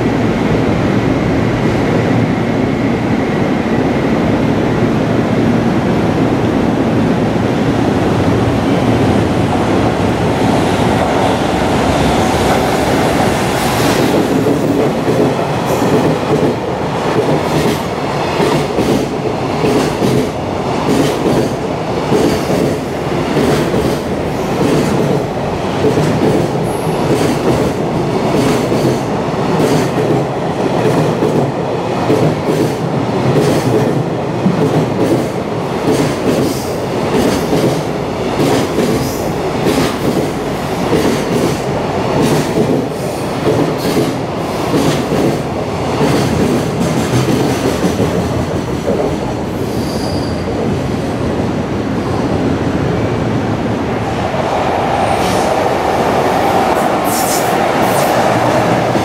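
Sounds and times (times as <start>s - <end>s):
train running rush: 0.0s - 59.0s.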